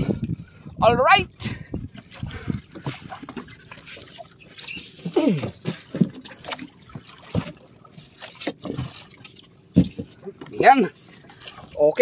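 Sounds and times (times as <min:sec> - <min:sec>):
water lapping against hull: 0:00.0 - 0:12.0.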